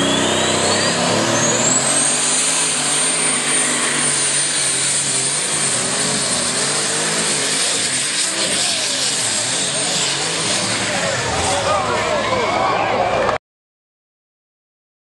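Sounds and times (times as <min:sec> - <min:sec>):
high turbocharger whine: 0:00.0 - 0:13.3
tractor engine running loud: 0:00.0 - 0:13.4.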